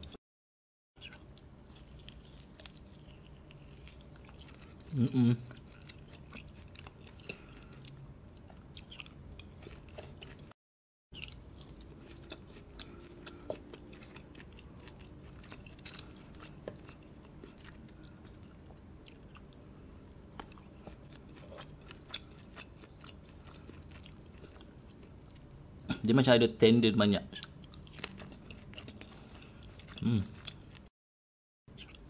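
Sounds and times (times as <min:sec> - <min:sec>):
chewing meat: 0:01.0 - 0:26.0, 0:27.2 - 0:30.9, 0:31.7 - 0:32.0.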